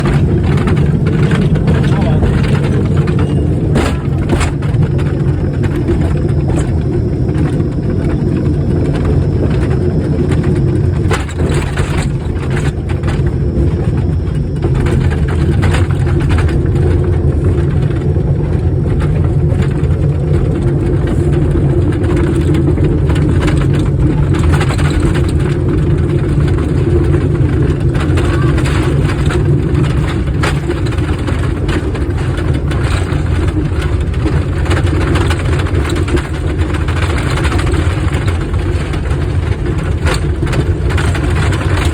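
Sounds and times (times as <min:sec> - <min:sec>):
rattling knocks of cars: 0:00.0 - 0:41.9
train rumbling on track: 0:00.0 - 0:41.9.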